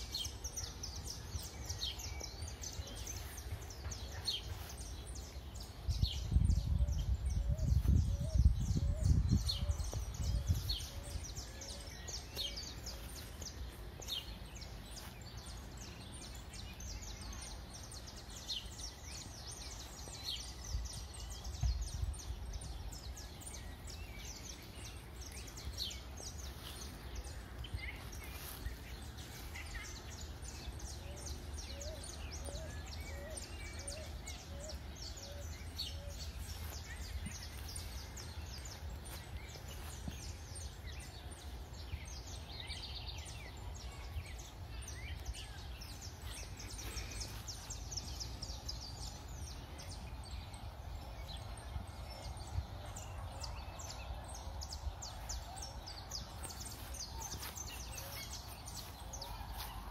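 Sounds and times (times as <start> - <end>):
songbirds chirping and calling: 0.0 - 59.9.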